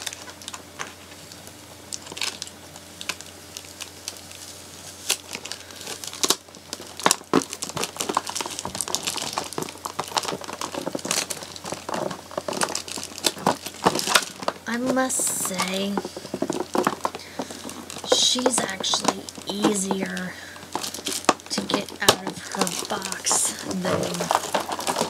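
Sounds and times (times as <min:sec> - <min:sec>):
packaging crinkling and tearing: 0:00.0 - 0:25.0.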